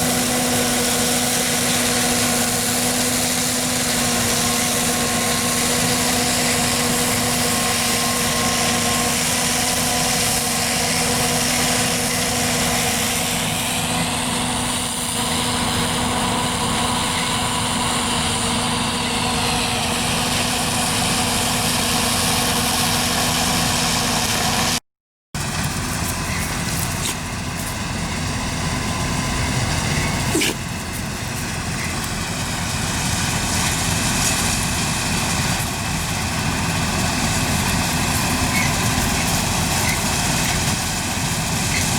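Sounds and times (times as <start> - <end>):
combine harvester droning: 0.0 - 24.8, 25.4 - 41.9.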